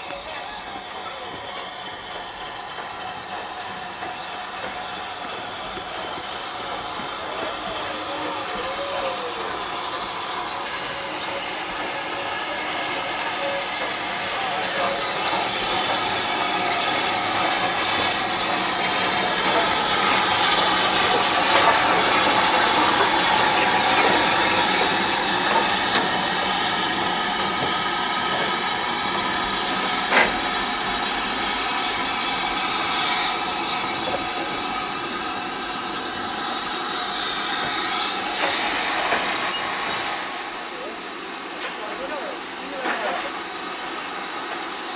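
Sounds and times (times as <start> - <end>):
train knocks: 0.0 - 36.2, 37.0 - 40.8
steam hissing: 0.0 - 44.9
train rolling: 0.0 - 44.9.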